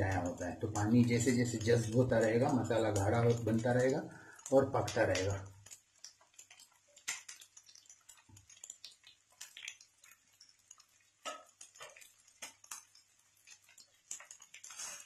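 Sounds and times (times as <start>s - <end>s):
fish sizzling clicks and pops: 0.0s - 15.0s.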